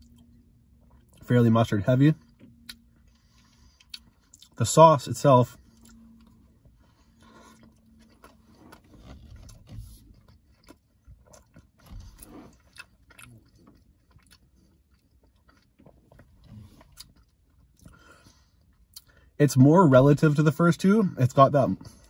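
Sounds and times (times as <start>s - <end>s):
soft chewing: 0.0s - 1.3s, 2.1s - 4.7s, 5.4s - 19.4s.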